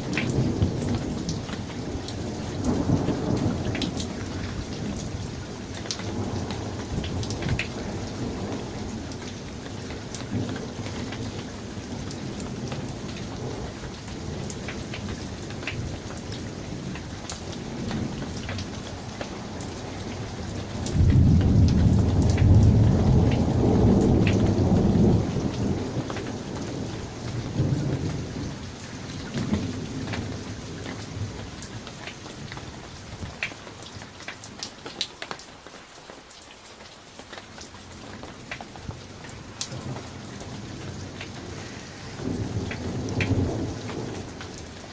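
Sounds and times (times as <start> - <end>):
thunder rumbling: 0.0 - 33.4, 38.2 - 44.9
steady rain: 0.0 - 44.9.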